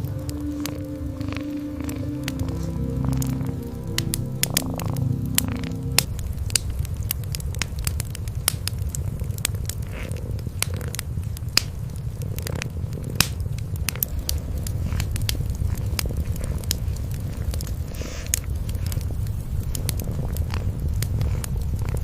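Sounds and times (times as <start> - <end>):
cats purring: 0.0 - 22.0
wood fire crackling: 0.0 - 22.0.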